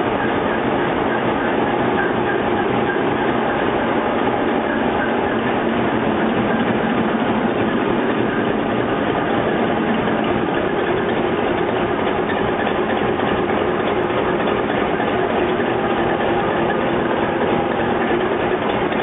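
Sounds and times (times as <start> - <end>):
diesel locomotive engine din: 0.0 - 19.0.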